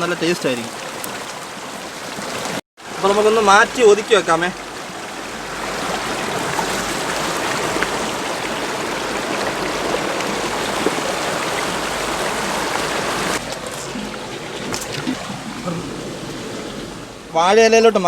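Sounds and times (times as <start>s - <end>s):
stream water rushing over rocks: 0.0s - 17.4s.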